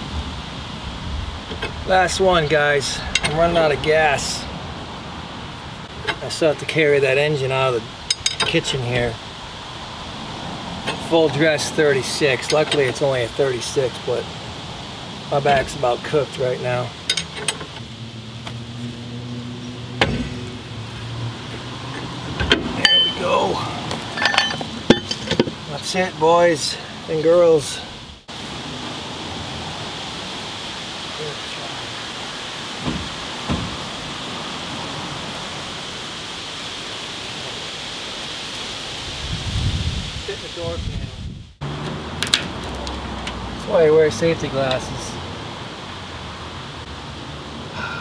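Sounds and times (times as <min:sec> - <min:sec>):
outdoor background hiss: 0:00.0 - 0:48.0.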